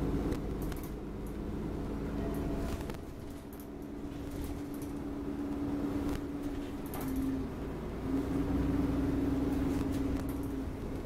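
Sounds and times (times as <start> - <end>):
bus engine hum: 0.0 - 11.0
road rumble: 0.0 - 11.0.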